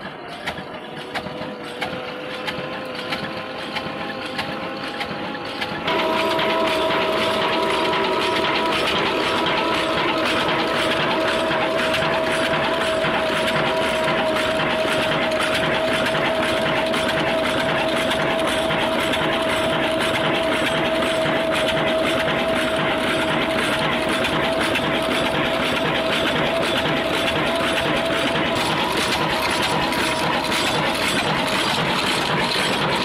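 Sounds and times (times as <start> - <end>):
constant whine: 0.0 - 33.0
stationary diesel engine running: 0.0 - 33.0.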